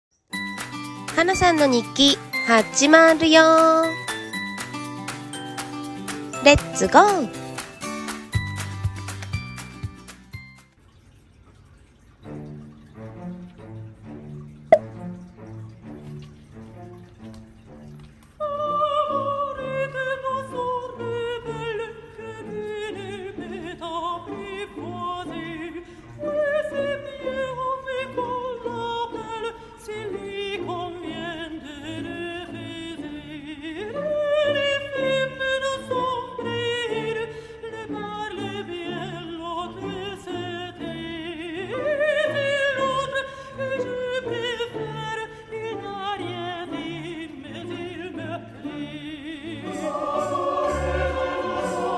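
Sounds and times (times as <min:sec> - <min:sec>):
background music with sinking melody: 0:00.4 - 0:51.9.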